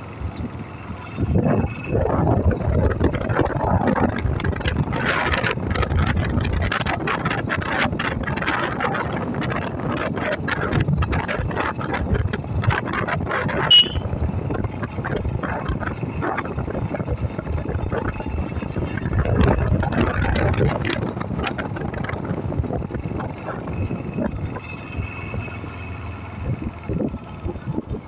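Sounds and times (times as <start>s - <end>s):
motorcycle engine running: 0.0s - 28.0s
wind buffeting microphone: 0.2s - 28.0s.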